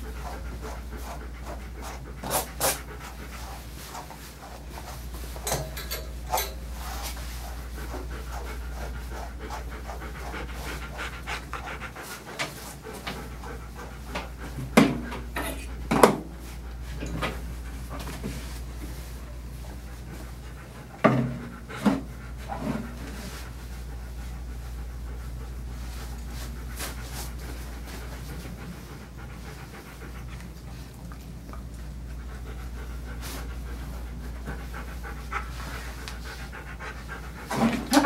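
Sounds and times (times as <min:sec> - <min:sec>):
dog panting: 0:00.0 - 0:05.5, 0:06.1 - 0:38.0.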